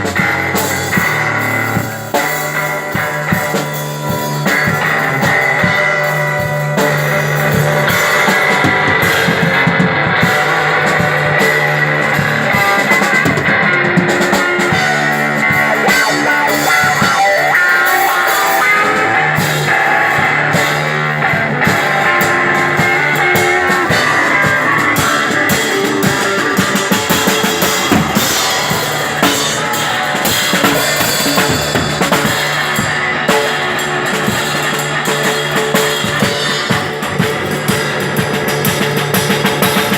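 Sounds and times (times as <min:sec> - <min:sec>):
drum kit with cymbals: 0:00.0 - 0:39.9
electric guitar riffing: 0:00.0 - 0:39.9.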